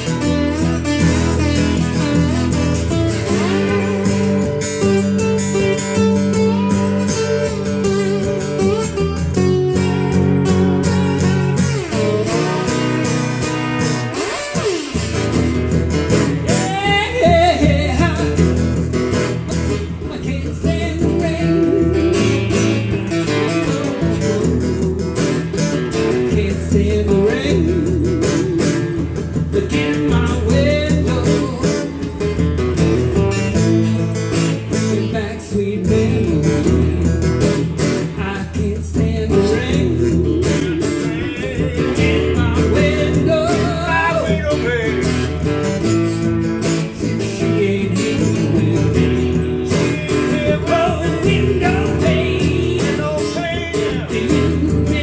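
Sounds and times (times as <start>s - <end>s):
man singing: 0.0s - 13.6s, 16.4s - 46.0s, 46.7s - 55.0s
strummed acoustic guitar: 0.0s - 55.0s.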